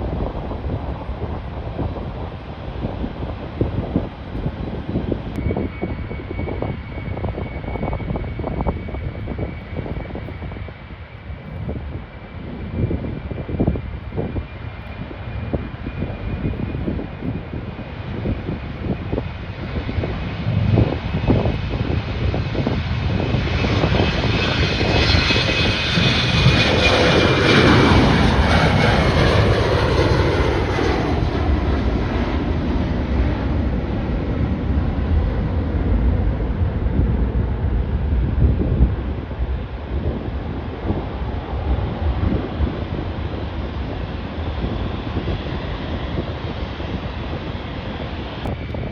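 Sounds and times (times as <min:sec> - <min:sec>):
jet engines whining: 0:00.0 - 0:48.9
wind buffeting microphone: 0:00.0 - 0:48.9.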